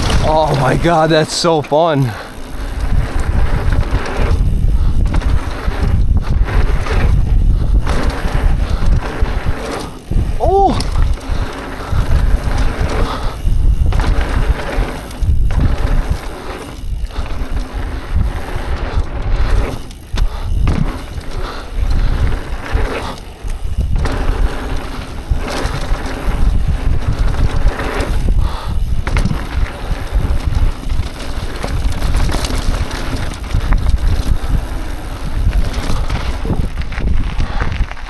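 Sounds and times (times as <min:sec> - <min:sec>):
bike rattling: 0:00.0 - 0:38.0
bike tyres rumbling: 0:00.0 - 0:38.0
wind buffeting microphone: 0:00.0 - 0:38.0.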